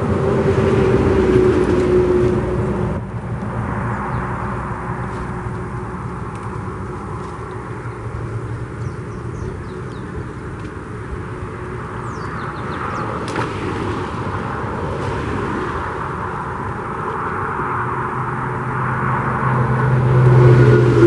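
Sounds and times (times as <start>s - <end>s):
highway traffic noise: 0.0s - 21.0s
vehicle passing: 0.0s - 21.0s.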